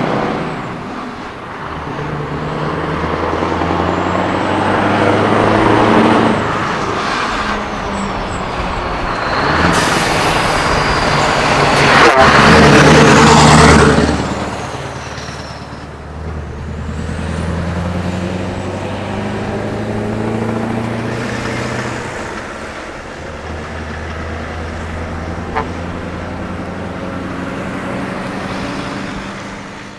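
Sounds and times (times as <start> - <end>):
diesel truck driving past: 0.0 - 29.9.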